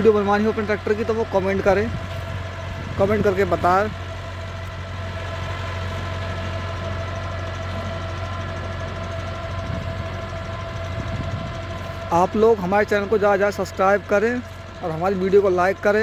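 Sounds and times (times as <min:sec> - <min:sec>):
diesel tractor engine hum: 0:00.0 - 0:16.0
gearbox whine: 0:00.0 - 0:16.0.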